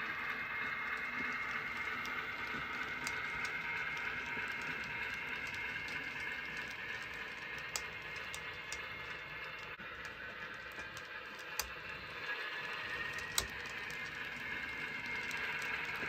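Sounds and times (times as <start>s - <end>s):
model train wheels rolling: 0.0s - 16.0s
wheel clicks on rail joints: 0.0s - 16.0s.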